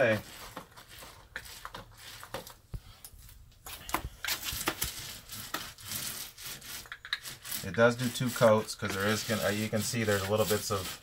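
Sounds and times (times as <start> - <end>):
paint roller rubbing: 0.0 - 2.6, 3.8 - 11.0.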